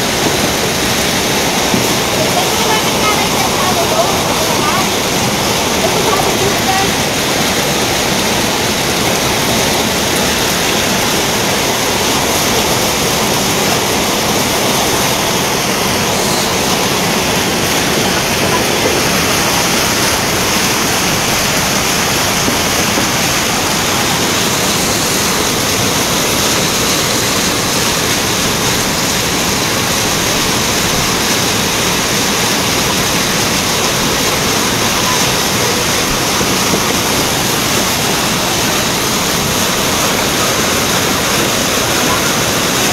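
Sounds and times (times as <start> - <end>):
floodwater rushing down street: 0.0 - 42.9.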